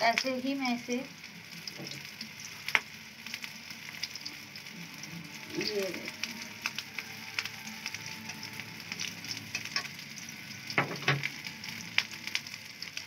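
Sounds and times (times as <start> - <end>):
kebabs sizzling in oil: 0.0 - 13.0.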